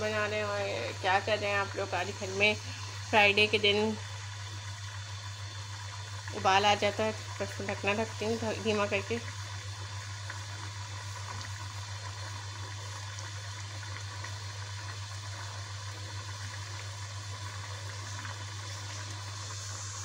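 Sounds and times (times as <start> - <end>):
pot boiling and bubbling: 0.0 - 20.0.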